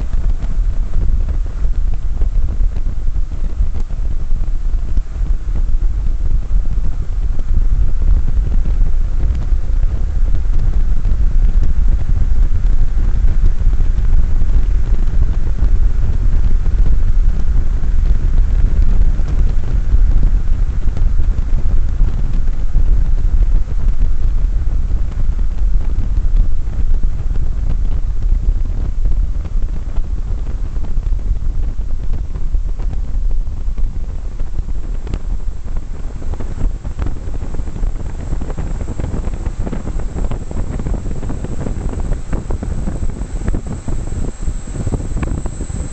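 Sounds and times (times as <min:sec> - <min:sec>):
fan air blast rumble: 0:00.0 - 0:45.9.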